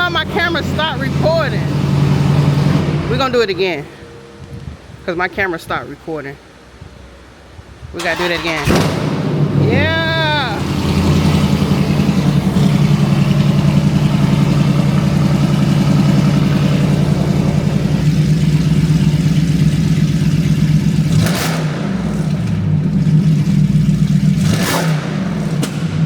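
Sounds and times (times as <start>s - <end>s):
truck engine running: 0.0s - 4.9s, 8.0s - 26.0s.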